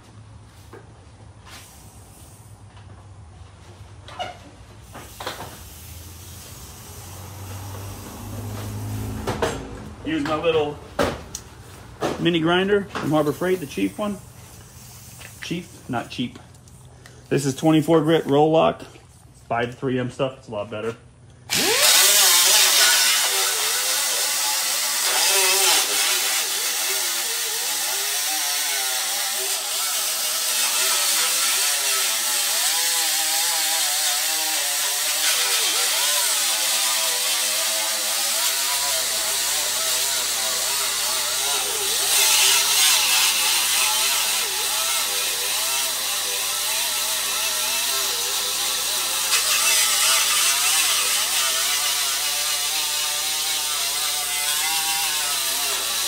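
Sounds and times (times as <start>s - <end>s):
air grinder grinding metal: 4.1s - 18.5s, 21.4s - 56.0s.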